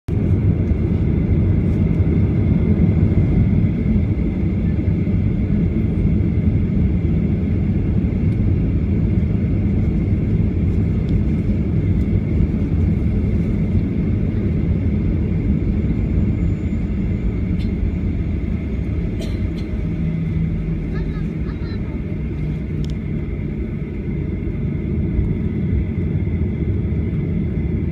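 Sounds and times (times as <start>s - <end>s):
jet engine cabin rumble: 0.1s - 27.9s.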